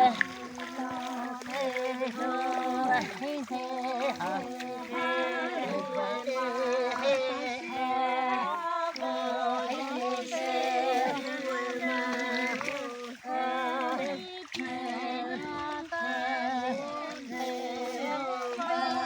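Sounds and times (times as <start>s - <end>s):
group of voices chanting: 0.0s - 19.0s.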